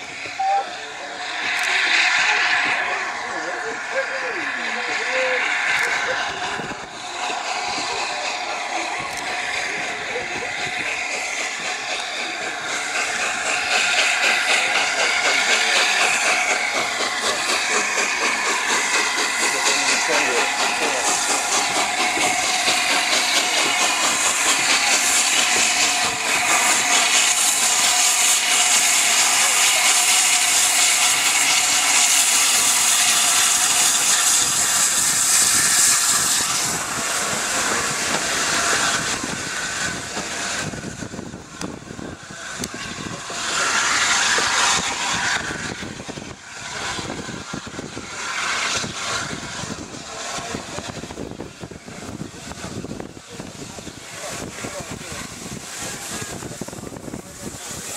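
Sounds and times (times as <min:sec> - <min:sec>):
steam train passing: 0:00.0 - 0:57.9
train and station noise: 0:00.0 - 0:57.9.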